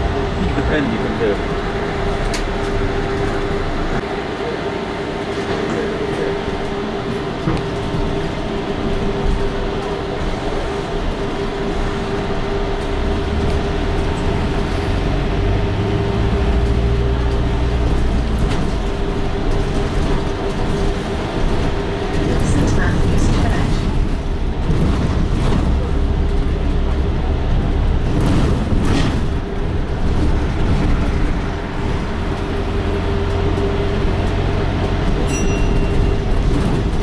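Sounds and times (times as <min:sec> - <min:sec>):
bus running and road noise: 0:00.0 - 0:37.0
deep rumble: 0:06.6 - 0:37.0.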